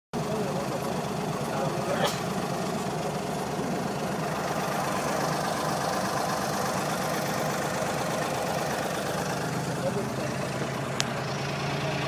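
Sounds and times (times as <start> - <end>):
boat engine running: 0.2 - 12.0.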